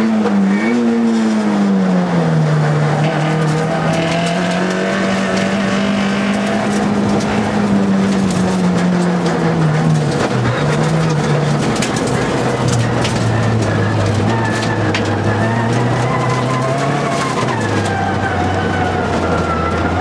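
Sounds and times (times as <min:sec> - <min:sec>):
car engine at high revs: 0:00.0 - 0:20.0
gravel clattering against car underside: 0:03.0 - 0:20.0.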